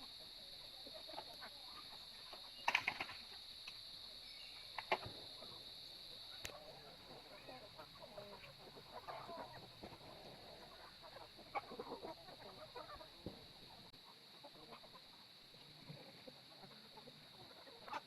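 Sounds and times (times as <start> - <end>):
chickens clucking: 0.0 - 18.0
steady high hiss: 0.0 - 18.0.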